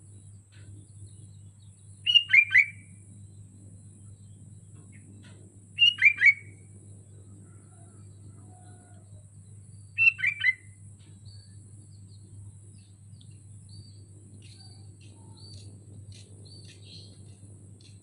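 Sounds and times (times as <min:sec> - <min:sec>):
steady low hum: 0:00.0 - 0:18.0
bird chirping: 0:00.2 - 0:18.0.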